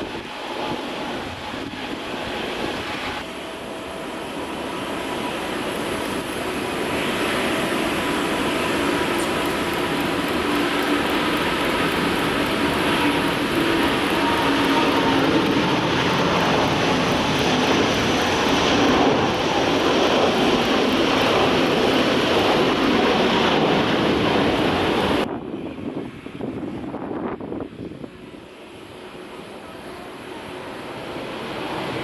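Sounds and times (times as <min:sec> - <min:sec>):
loud jet engines: 0:00.0 - 0:32.0
quieter uneven aircraft noise: 0:00.0 - 0:32.0.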